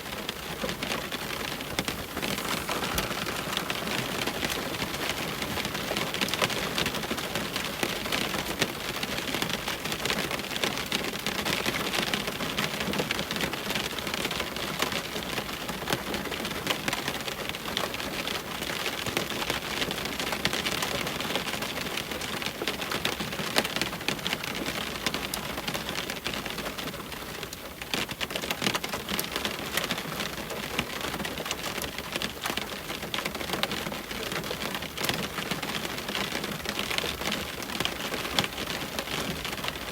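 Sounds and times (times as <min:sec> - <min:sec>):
heavy rain on window: 0:00.0 - 0:39.9.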